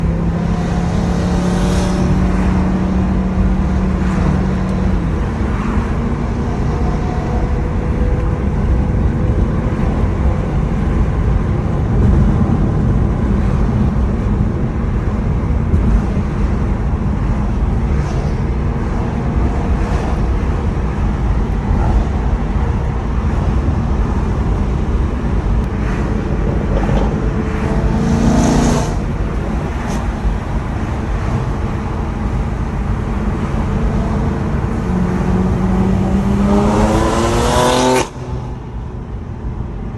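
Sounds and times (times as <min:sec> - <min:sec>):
car engine accelerating: 0:00.0 - 0:39.9
road traffic noise: 0:00.0 - 0:39.9.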